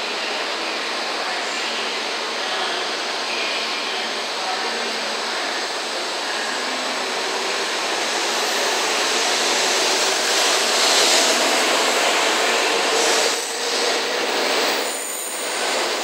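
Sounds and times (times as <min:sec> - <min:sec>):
train rushing noise: 0:00.0 - 0:16.0.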